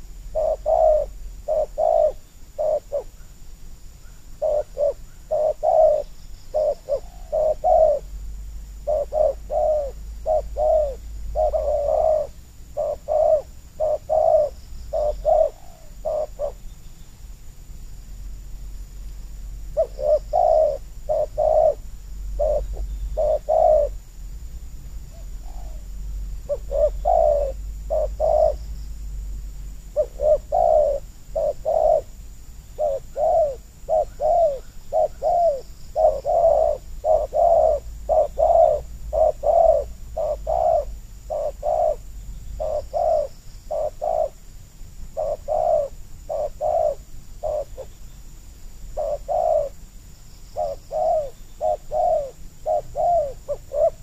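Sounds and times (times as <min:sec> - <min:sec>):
doves cooing: 0:00.0 - 0:03.4, 0:04.0 - 0:16.8, 0:19.6 - 0:24.1, 0:24.9 - 0:48.1, 0:48.9 - 0:54.0.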